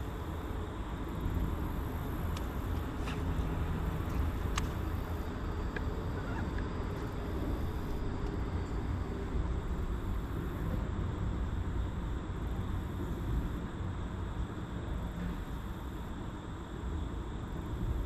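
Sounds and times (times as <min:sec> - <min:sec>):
boat motor droning: 0:00.0 - 0:16.4.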